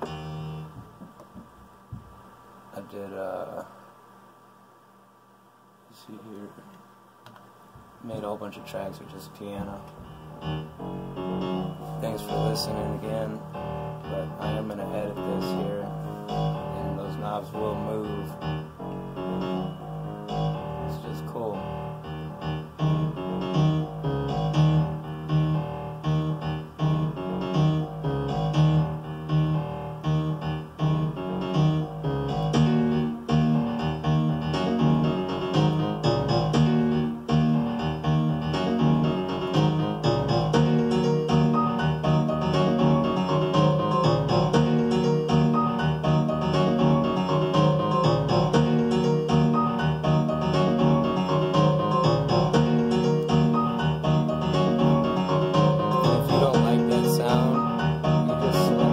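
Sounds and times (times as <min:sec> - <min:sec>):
piano repeating pattern: 0:00.0 - 0:01.0, 0:08.0 - 0:58.9
steady low note: 0:08.0 - 0:58.9.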